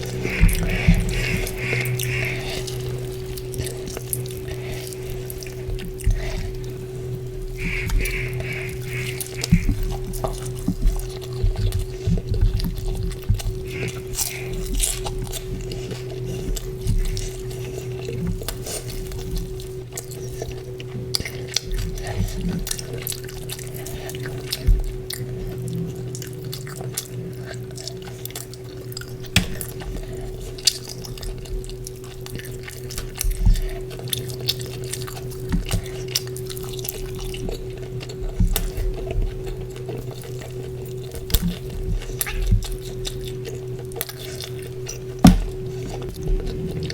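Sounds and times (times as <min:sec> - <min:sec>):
steady low hum: 0:00.0 - 0:46.9
wet chewing and lip smacks: 0:00.0 - 0:46.9.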